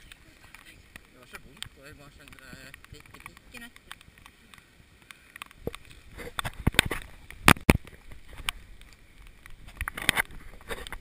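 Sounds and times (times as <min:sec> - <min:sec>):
twigs and branches scraping: 0:00.0 - 0:11.0.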